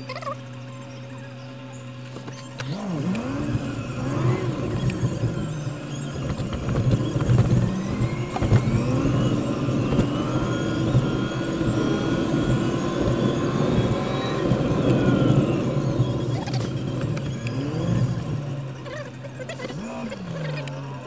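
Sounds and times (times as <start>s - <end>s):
car engine accelerating: 0.0s - 21.0s
road noise: 0.0s - 21.0s.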